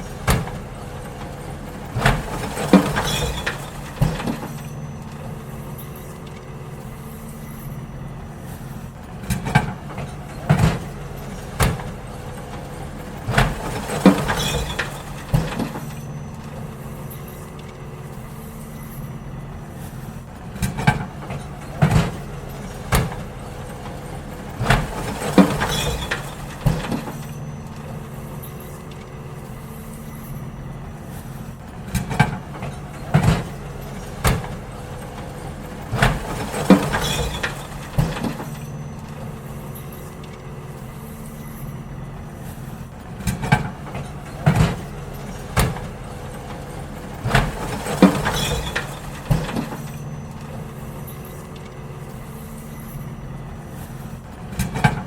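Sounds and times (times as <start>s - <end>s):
bins clanking and banging: 0.0s - 55.0s
garbage truck engine running: 0.0s - 55.0s.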